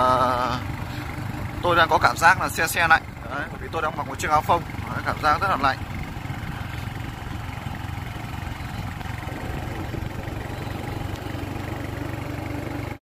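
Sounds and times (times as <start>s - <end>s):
road noise: 0.0s - 13.0s
vehicle engine humming: 0.0s - 13.0s.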